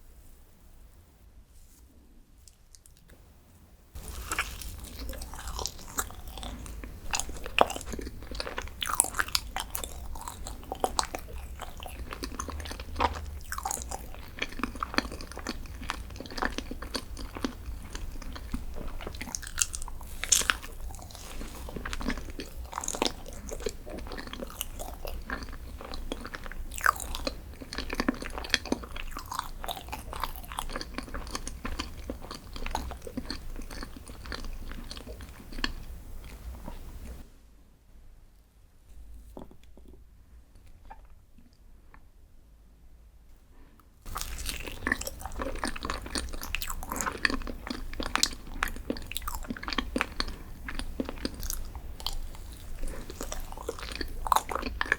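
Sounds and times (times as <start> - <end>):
person chewing dessert: 4.0 - 37.2, 44.0 - 54.9.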